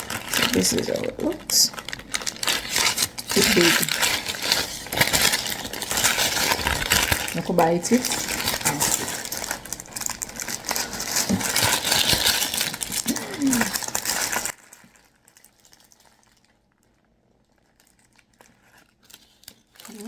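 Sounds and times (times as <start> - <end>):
food packaging rustling and clattering: 0.0 - 20.0.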